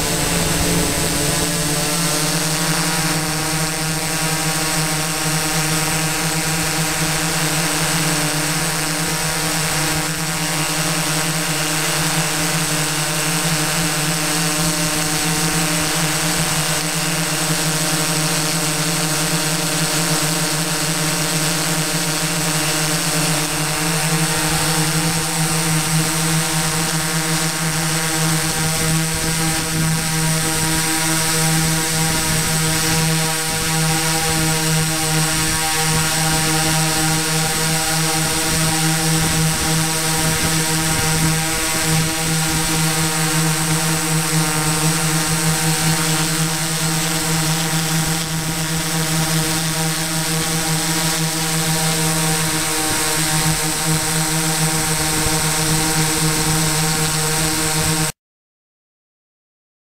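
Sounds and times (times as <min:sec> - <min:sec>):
drone propellers humming: 0:00.0 - 0:58.0.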